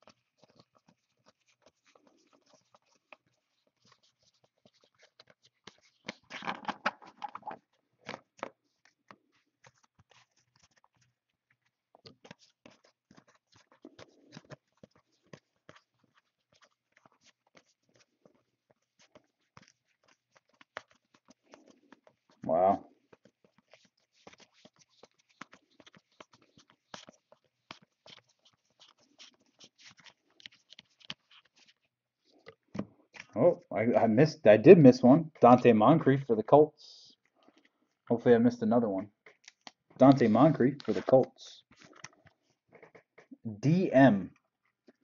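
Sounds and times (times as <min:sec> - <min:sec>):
cards being flipped through: 0:00.1 - 0:22.4, 0:23.0 - 0:33.4, 0:39.2 - 0:43.4.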